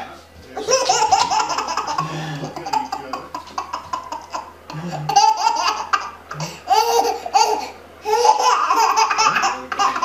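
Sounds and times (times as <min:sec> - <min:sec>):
baby laughing: 0:00.6 - 0:10.0.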